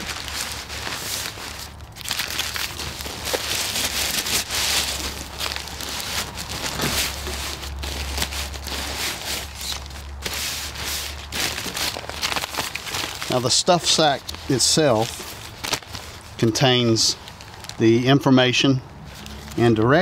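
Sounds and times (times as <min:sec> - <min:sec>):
nylon fabric rustling: 0:00.0 - 0:16.5.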